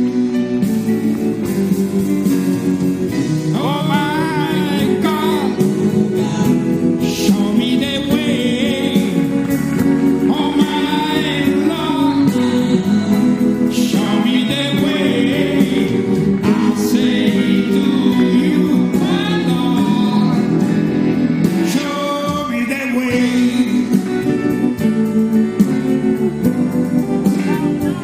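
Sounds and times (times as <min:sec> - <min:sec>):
instrumental backing: 0:00.0 - 0:28.0
song with singing voices: 0:00.0 - 0:28.0.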